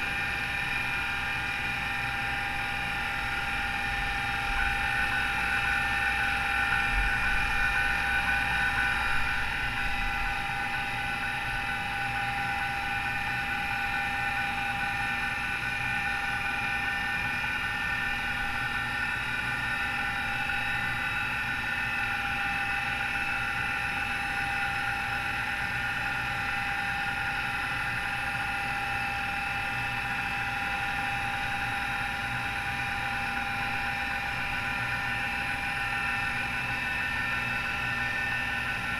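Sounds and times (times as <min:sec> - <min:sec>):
hard drive bearing whine: 0:00.0 - 0:38.9.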